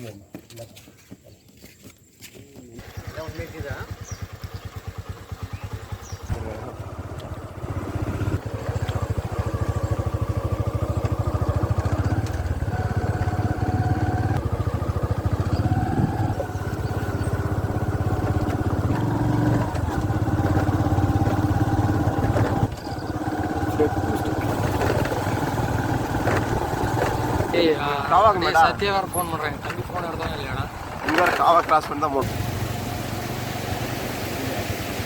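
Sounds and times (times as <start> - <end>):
motorcycle engine pulling away: 2.7 - 35.0.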